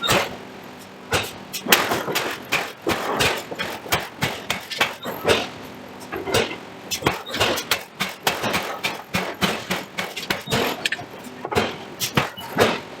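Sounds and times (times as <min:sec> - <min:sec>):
forging hammer striking metal: 0:01.1 - 0:05.6, 0:06.4 - 0:12.9.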